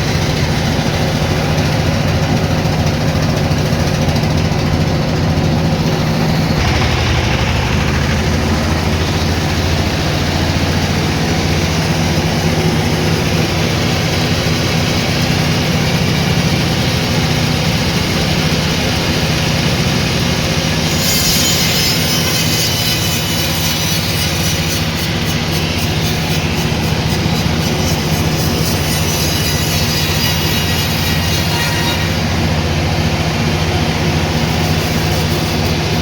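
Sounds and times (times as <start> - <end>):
sawmill machinery humming: 0.0 - 36.0.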